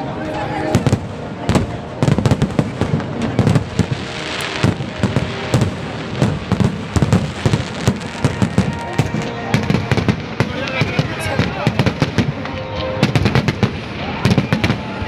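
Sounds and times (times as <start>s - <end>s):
fireworks banging: 0.0s - 15.0s
fireworks crackling: 0.0s - 15.0s
fireworks hissing: 0.7s - 15.0s.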